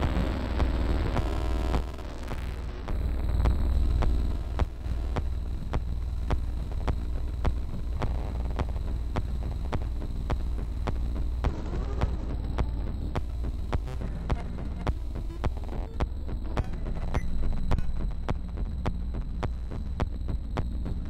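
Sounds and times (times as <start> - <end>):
deep bass drone: 0.0 - 21.0.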